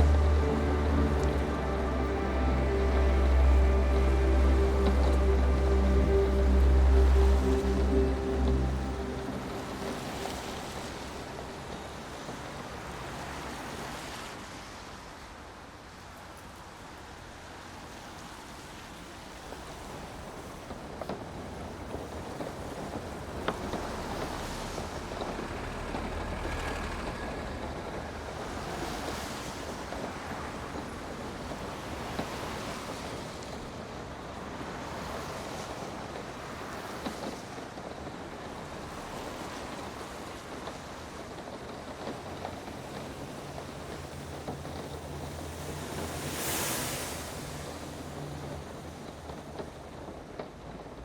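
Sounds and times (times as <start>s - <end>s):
tyres hissing on wet road: 0.0s - 41.3s, 42.2s - 49.9s.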